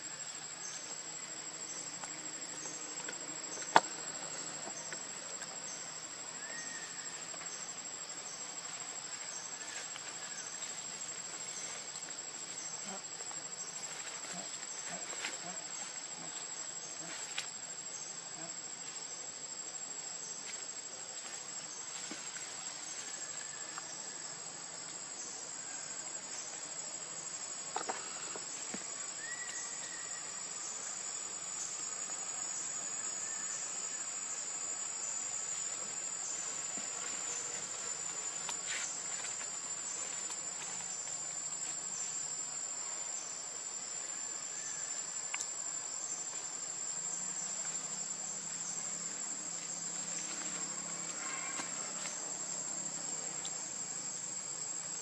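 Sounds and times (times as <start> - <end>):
forest insects chorus: 0.0 - 55.0.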